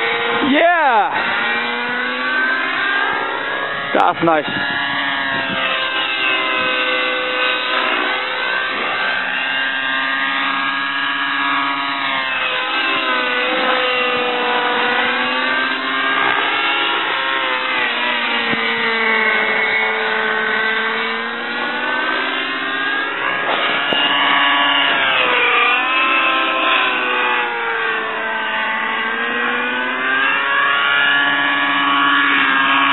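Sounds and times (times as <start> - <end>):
rc helicopter engine and rotor whine: 0.0 - 32.9.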